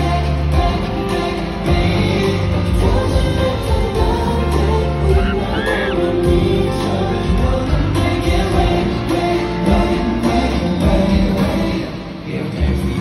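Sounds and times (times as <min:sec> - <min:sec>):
man singing into microphone: 0:00.0 - 0:13.0
pop song through pa: 0:00.0 - 0:13.0.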